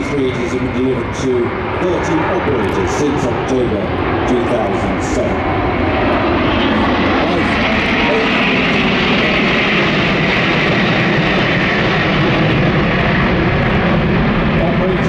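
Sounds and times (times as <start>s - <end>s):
aircraft engines flying past: 0.0s - 15.0s.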